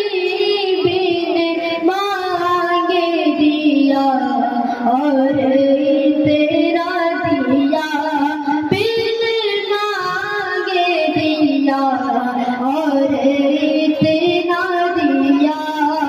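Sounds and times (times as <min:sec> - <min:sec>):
person singing into a microphone: 0:00.0 - 0:16.0.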